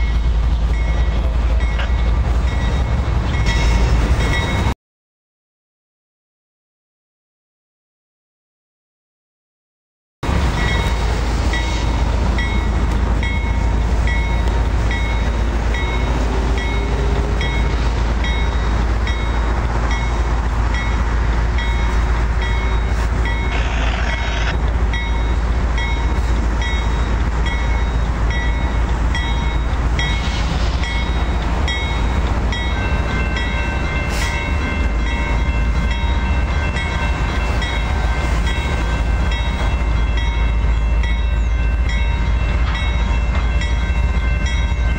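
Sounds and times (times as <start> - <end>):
freight train rumbling past: 0.0 - 4.8, 10.2 - 44.9.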